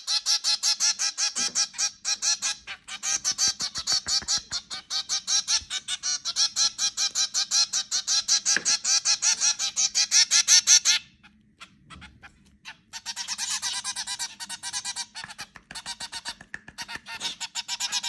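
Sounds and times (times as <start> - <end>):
zebra finches calling: 0.0 - 18.0.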